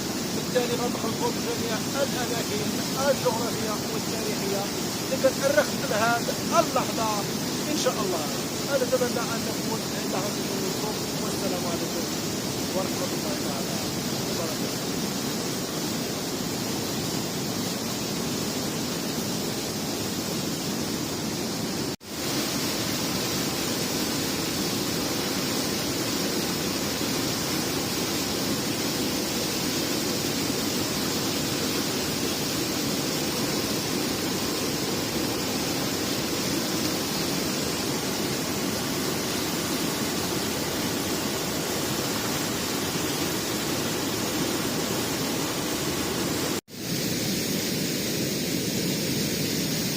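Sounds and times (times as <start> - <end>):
steady rushing noise: 0.0 - 49.9.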